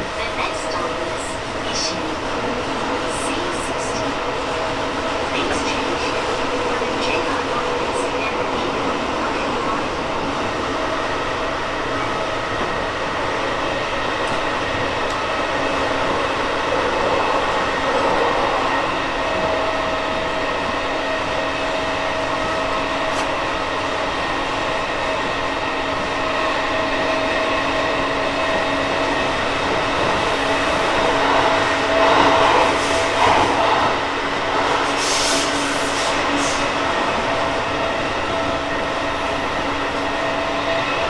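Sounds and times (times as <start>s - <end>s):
wheels rushing on rail: 0.0s - 41.0s.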